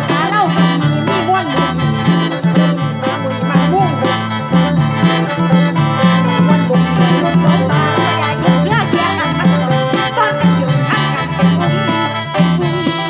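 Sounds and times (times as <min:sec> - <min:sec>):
bass and drum beat: 0:00.0 - 0:13.0
reedy khaen melody: 0:00.0 - 0:13.0.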